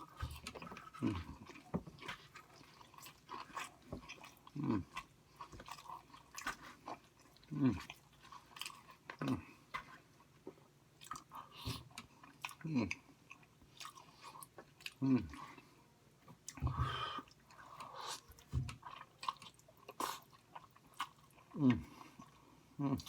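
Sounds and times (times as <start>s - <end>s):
chewing and crunching: 0.0s - 23.0s.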